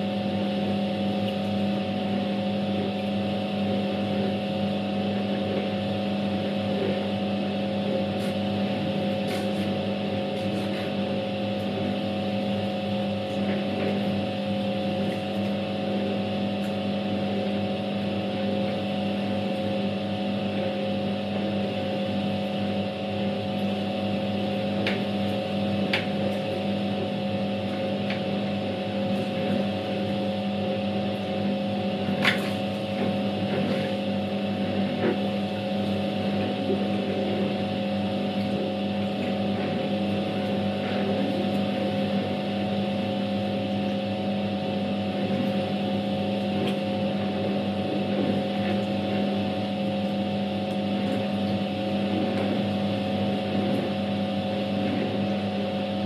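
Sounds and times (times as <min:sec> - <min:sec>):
impeller churning water: 0:00.0 - 0:56.0
washing machine motor humming: 0:00.0 - 0:56.0.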